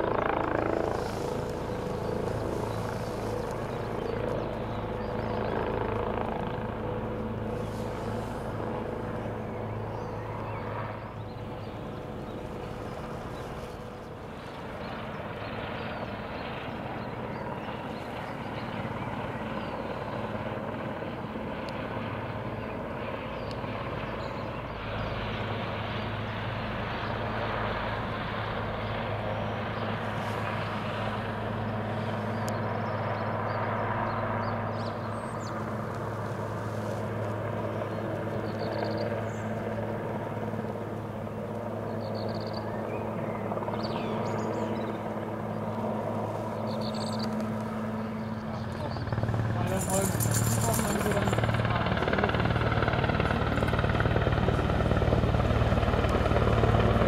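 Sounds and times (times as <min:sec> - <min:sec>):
distant helicopter drone: 0:00.0 - 0:57.0.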